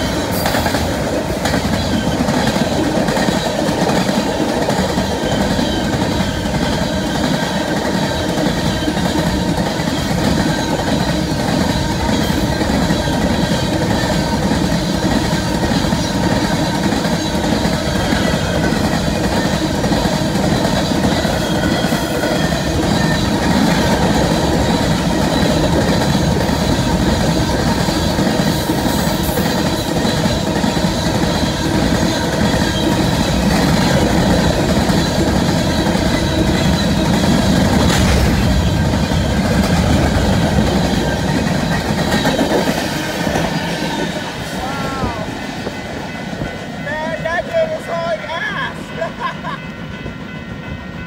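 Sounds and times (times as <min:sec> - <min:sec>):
freight train wheels clattering: 0:00.0 - 0:51.0.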